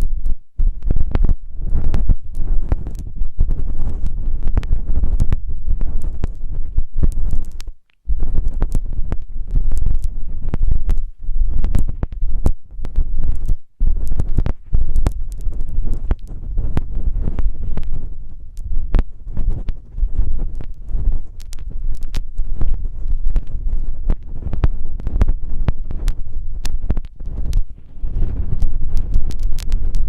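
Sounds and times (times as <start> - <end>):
rubbing on microphone: 0.0 - 30.0.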